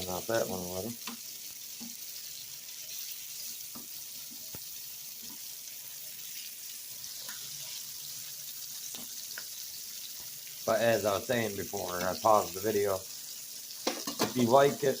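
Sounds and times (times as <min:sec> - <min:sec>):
shrimp sizzling in hot oil: 0:00.0 - 0:15.0.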